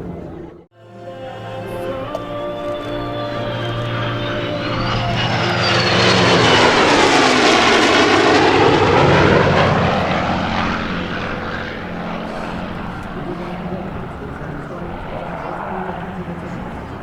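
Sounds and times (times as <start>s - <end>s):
jet flying past: 1.6s - 17.0s.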